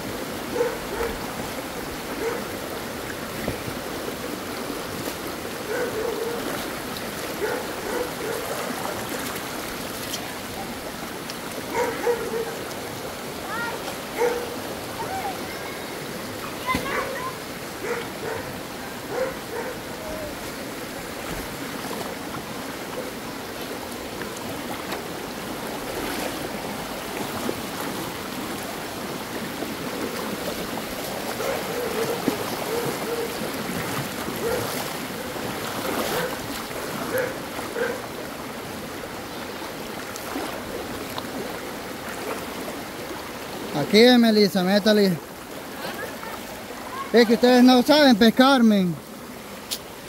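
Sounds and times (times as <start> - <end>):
river rushing over rocks: 0.0 - 50.0.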